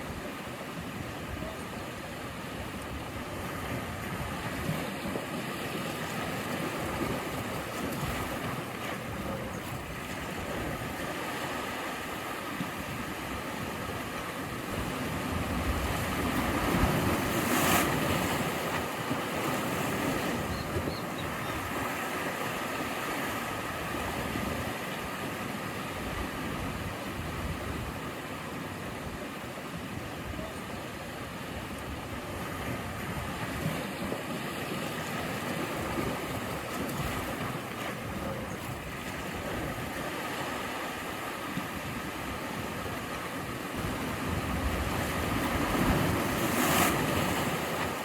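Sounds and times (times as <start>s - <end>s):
ocean waves washing ashore: 0.0s - 48.0s.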